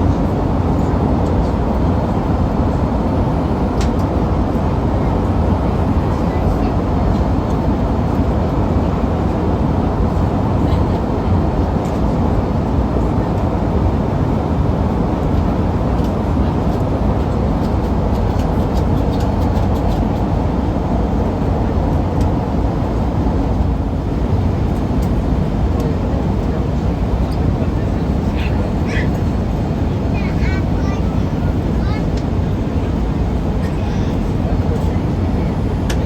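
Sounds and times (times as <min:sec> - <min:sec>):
jet cabin low rumble: 0:00.0 - 0:36.0.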